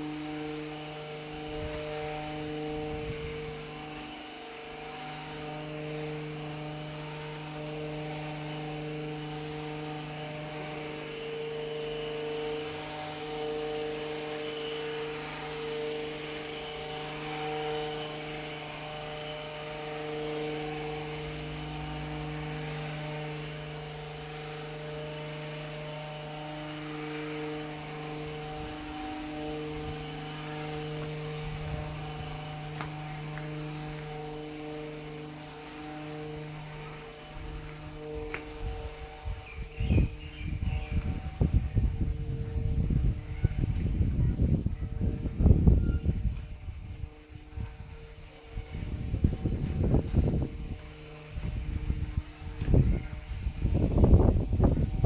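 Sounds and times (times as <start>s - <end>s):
droning motor hum: 0.0s - 55.0s.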